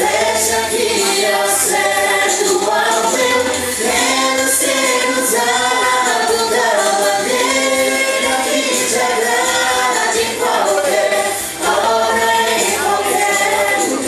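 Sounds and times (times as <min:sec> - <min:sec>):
voices singing worship song: 0:00.0 - 0:14.0.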